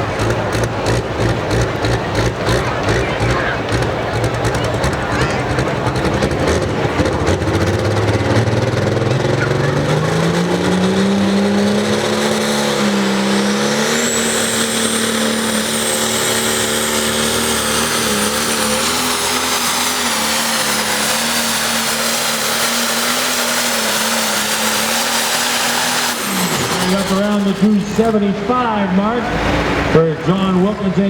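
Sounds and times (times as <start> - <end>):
announcers talking: 0.0 - 31.0
tractor diesel engine revving: 0.0 - 31.0.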